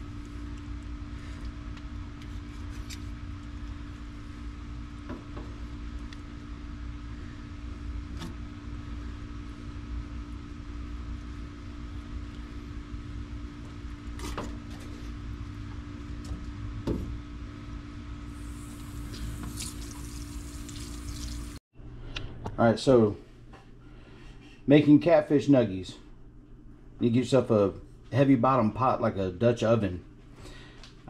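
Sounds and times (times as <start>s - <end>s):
mechanical hum with low rumble: 0.0s - 31.0s.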